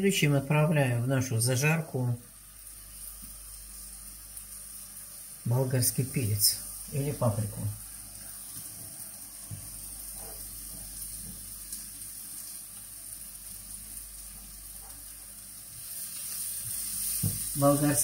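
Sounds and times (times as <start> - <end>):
vegetables sizzling in oil: 0.8 - 18.0.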